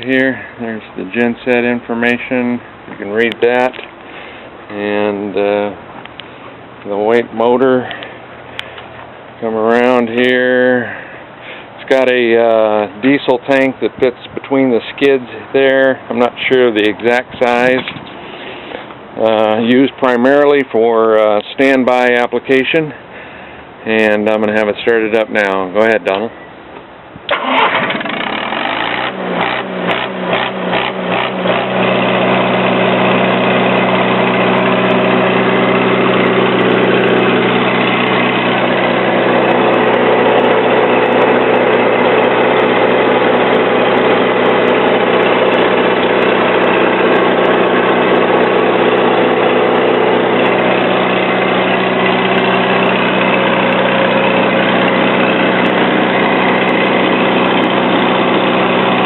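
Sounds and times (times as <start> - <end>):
diesel generator engine running: 0.0 - 59.0.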